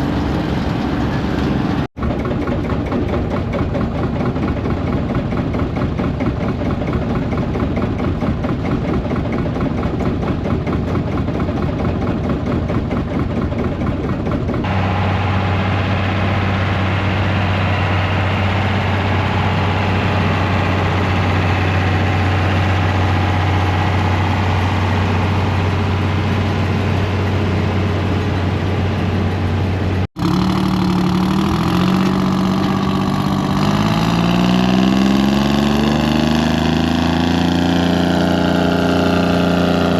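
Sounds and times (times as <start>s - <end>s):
tractor engine idling: 0.0s - 36.0s
tractor engine revving: 0.0s - 39.9s
tractor engine running rough: 0.0s - 39.9s.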